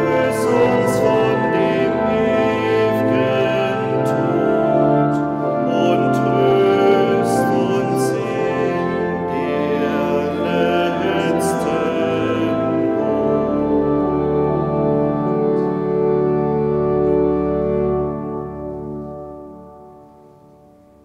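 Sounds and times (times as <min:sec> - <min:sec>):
organ music: 0:00.0 - 0:21.0.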